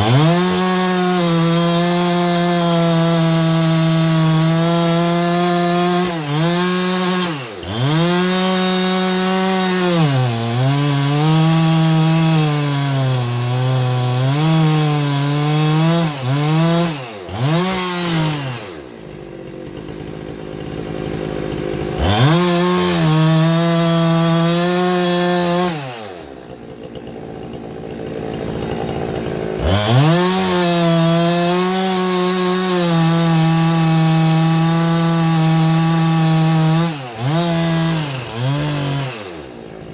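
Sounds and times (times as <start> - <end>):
electric power tool running: 0.0 - 39.9.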